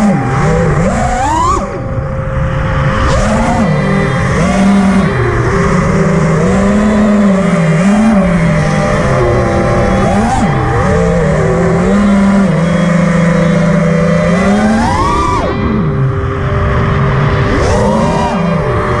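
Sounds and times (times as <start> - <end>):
loud motor whine: 0.0 - 19.0.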